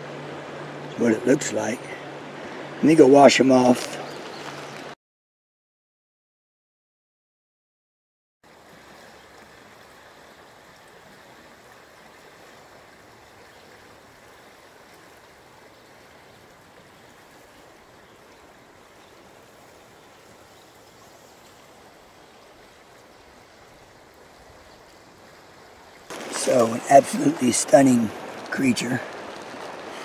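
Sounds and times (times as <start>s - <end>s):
creek flowing: 0.0s - 5.0s, 8.4s - 30.0s.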